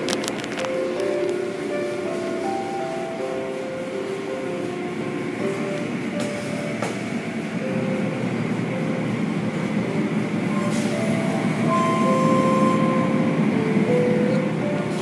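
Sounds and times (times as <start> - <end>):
car wash machinery running: 0.0 - 15.0.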